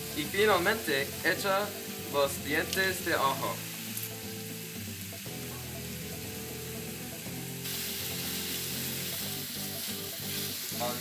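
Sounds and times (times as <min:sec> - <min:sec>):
background music of held notes: 0:00.0 - 0:11.0
meat sizzling in a frying pan: 0:00.0 - 0:11.0.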